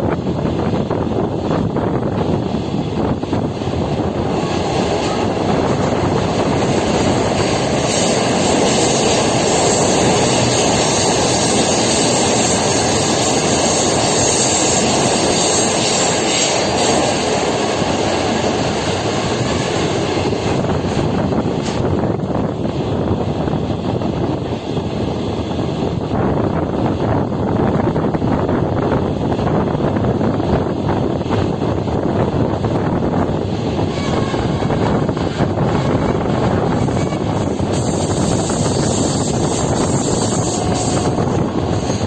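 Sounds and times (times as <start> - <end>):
train rumbling along track: 0.0 - 42.0.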